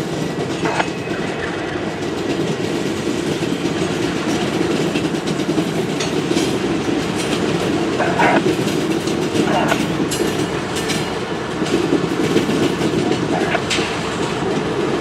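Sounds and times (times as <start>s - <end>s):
diesel locomotive engine rumble: 0.0s - 15.0s
train wheels clicking: 0.0s - 15.0s.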